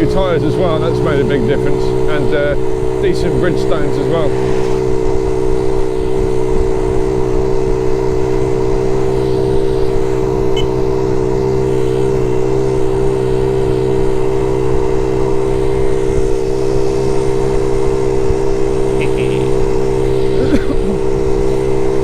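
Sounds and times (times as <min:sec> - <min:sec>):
small motorbike engine running: 0:00.0 - 0:22.0.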